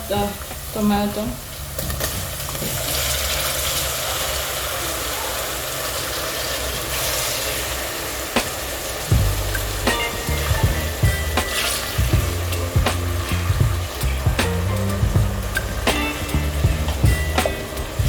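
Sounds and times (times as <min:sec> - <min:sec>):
onion and tomato sizzling in oil: 0:00.0 - 0:18.0.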